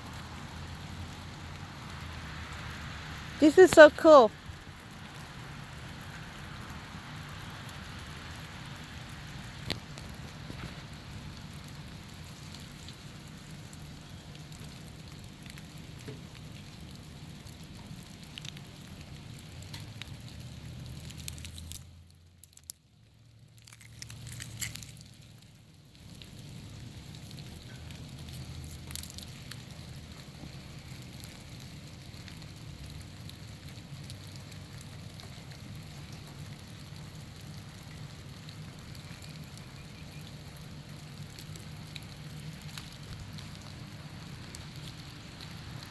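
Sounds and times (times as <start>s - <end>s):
patter of small ticks: 0.0s - 3.3s, 4.4s - 45.9s.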